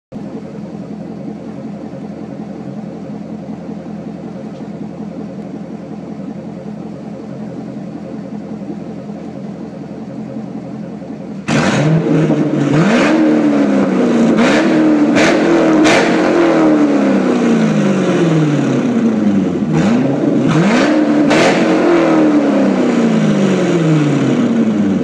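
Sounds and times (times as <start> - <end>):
car engine idling: 0.1 - 25.0.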